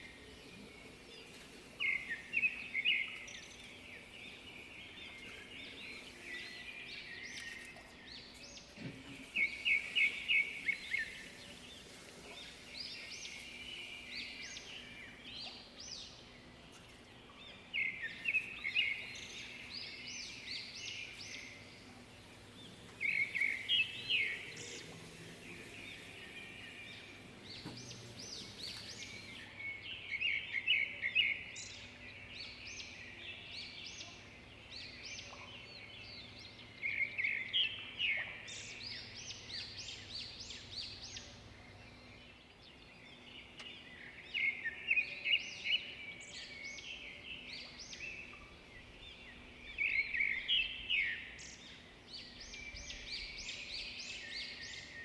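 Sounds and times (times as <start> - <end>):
faint steady hum: 0.0 - 55.0
songbird chirping: 0.0 - 55.0.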